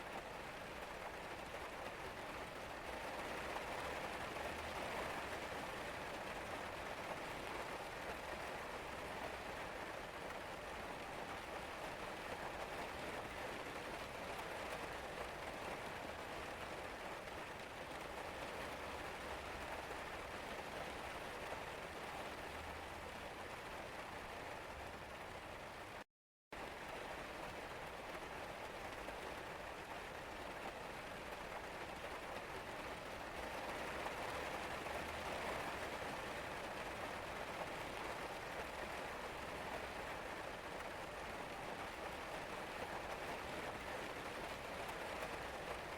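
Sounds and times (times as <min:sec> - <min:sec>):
rain pattering: 0:00.0 - 0:26.0, 0:26.6 - 0:45.9.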